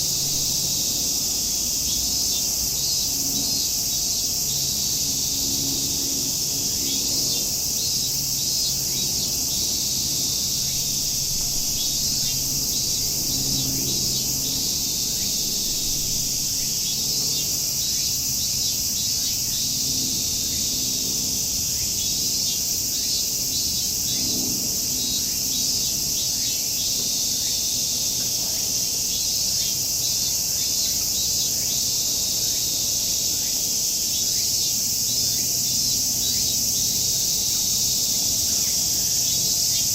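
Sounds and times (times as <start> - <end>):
cicadas shrilling: 0.0 - 39.9
small birds chirping: 0.0 - 39.9.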